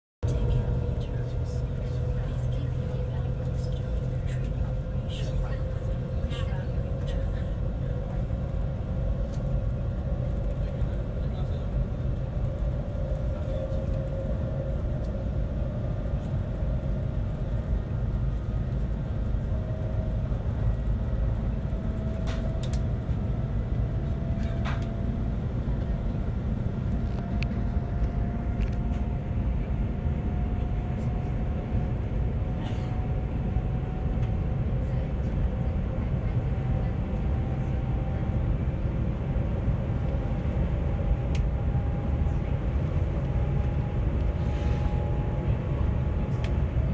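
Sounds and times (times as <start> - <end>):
train cabin low rumble: 0.2 - 46.9.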